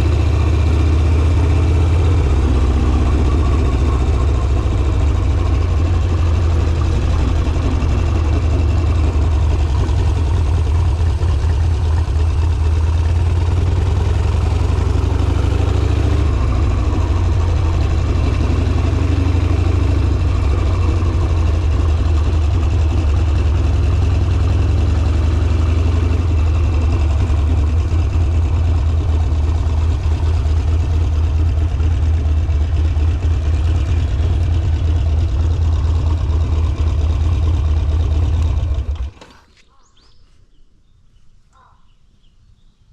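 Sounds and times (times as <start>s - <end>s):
motorcycle engine running: 0.0s - 39.4s.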